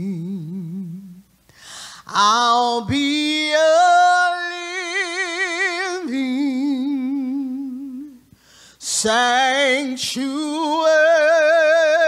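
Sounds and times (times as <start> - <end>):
woman singing unaccompanied: 0.0 - 1.2, 2.1 - 8.2, 8.8 - 12.0.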